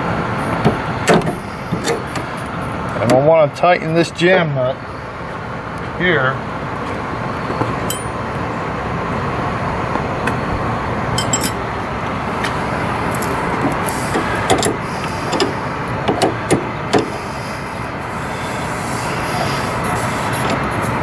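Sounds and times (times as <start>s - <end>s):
steady vehicle hum: 0.0s - 21.0s.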